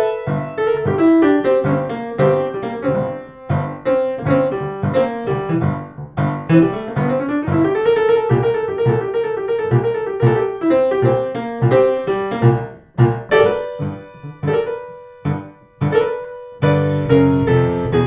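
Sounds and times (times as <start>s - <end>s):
blues piano music: 0.0s - 18.0s.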